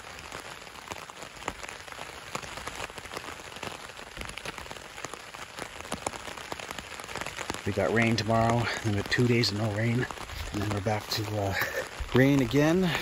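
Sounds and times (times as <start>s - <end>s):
rain on tent fabric: 0.0s - 13.0s.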